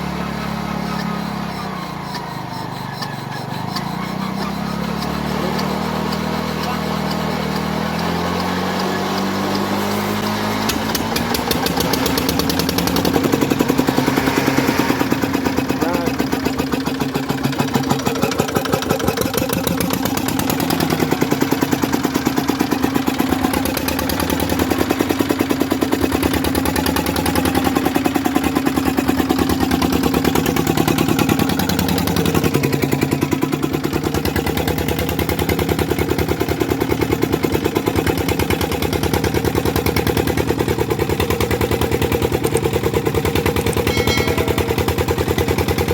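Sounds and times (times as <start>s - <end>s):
stationary diesel engine running: 0.0s - 45.9s.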